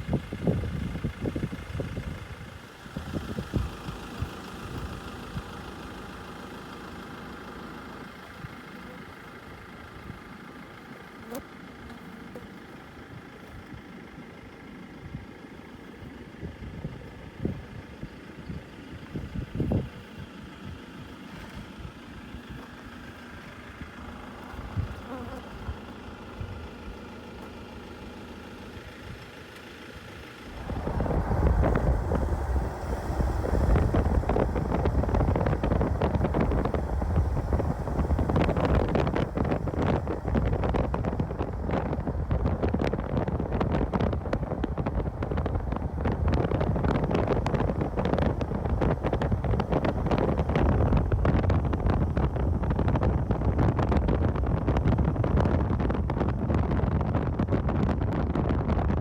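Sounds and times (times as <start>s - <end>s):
wind buffeting microphone: 0.0s - 5.8s, 16.0s - 29.4s, 30.4s - 59.0s
vehicle engine running: 0.0s - 59.0s.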